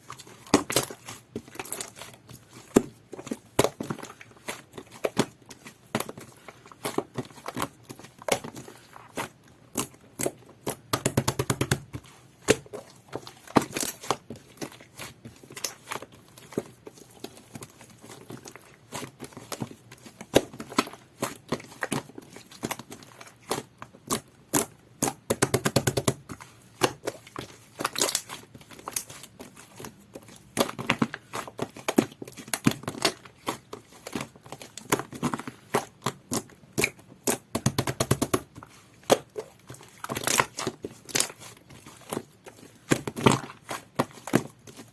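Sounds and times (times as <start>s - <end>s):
slime squished by hand: 0.1s - 44.9s.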